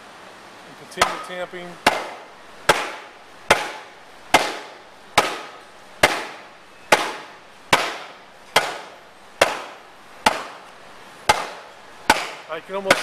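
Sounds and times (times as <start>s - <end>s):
hand tamp pounding wet clay: 1.0s - 10.6s, 11.3s - 13.0s.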